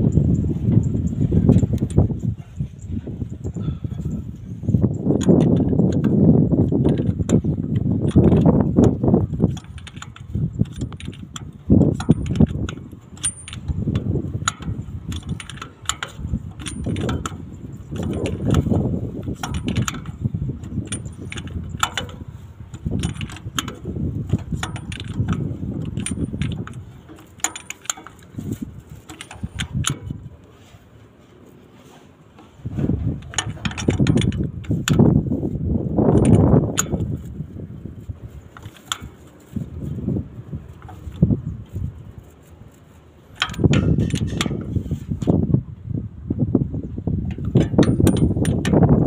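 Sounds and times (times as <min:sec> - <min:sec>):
metal tools clinking on engine parts: 0:00.1 - 0:40.0, 0:40.6 - 0:45.3, 0:47.2 - 0:49.0.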